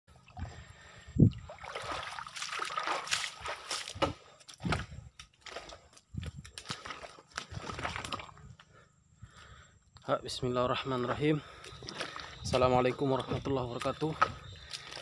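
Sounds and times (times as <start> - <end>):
footsteps squelching in mud and water: 0.1 - 8.7, 10.4 - 15.0.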